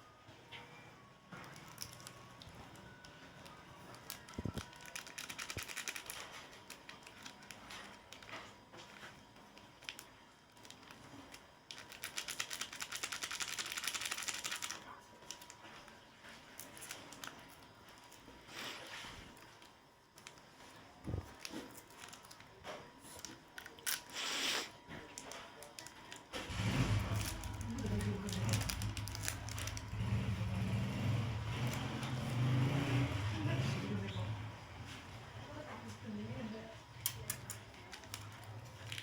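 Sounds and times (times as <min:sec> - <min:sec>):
snack wrappers crinkling: 0:01.4 - 0:32.8, 0:37.0 - 0:39.0.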